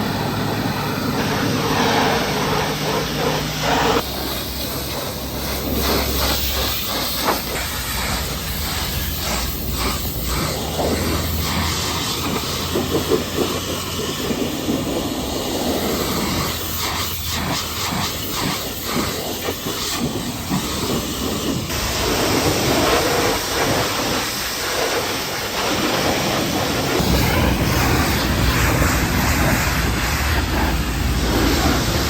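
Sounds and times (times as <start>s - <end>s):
pressure washer spraying water: 0.0s - 32.0s.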